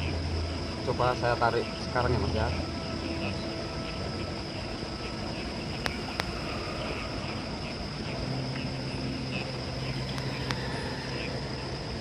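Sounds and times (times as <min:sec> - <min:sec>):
low steady hum: 0:00.0 - 0:12.0
night insects chirring: 0:00.0 - 0:12.0.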